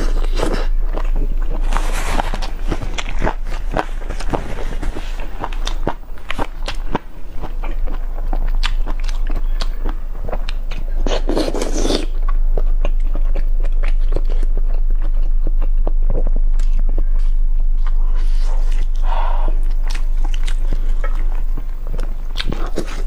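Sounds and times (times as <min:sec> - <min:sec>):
biting and chewing: 0:00.0 - 0:23.0
crunchy bite: 0:00.0 - 0:23.0.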